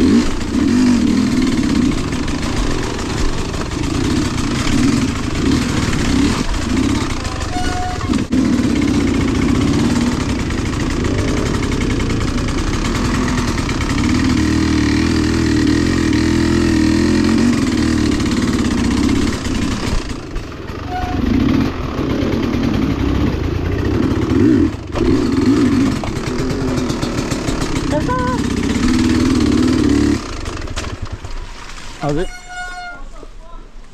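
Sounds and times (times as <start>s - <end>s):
off-road vehicle engine revving: 0.0s - 31.2s.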